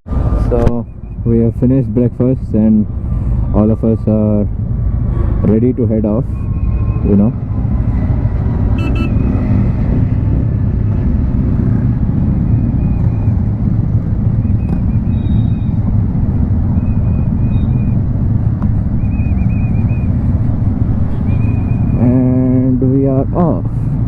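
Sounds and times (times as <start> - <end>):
motorcycle engines rumbling: 0.0 - 24.0
road noise: 0.0 - 24.0.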